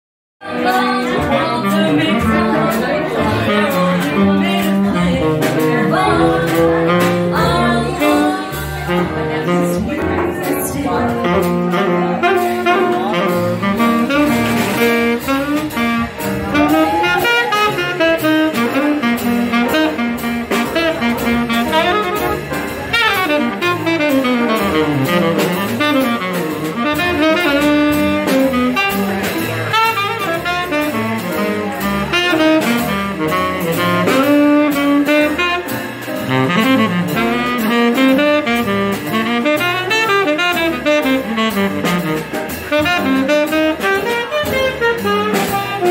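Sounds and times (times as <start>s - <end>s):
piano: 0.4s - 45.9s
saxophone melody: 0.4s - 45.9s
upright double bass: 0.4s - 45.9s
drums with cymbals: 0.5s - 45.9s.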